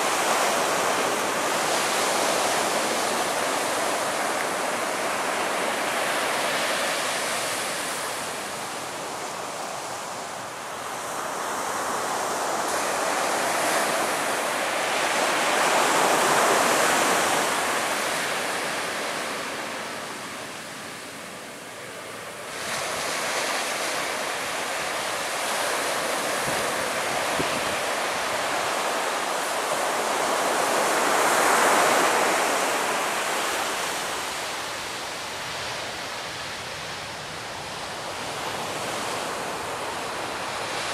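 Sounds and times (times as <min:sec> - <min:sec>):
surf washing onto beach: 0:00.0 - 0:40.9.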